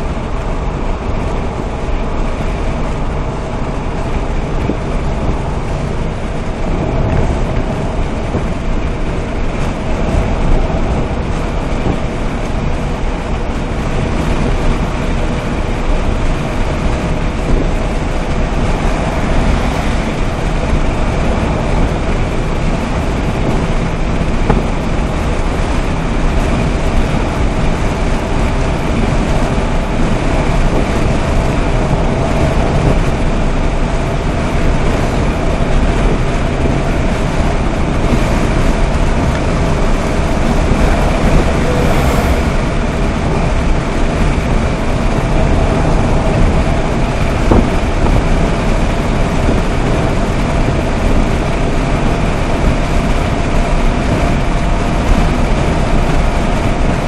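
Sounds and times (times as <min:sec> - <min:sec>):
car engine humming at speed: 0:00.0 - 0:57.0
road and wind noise: 0:00.0 - 0:57.0.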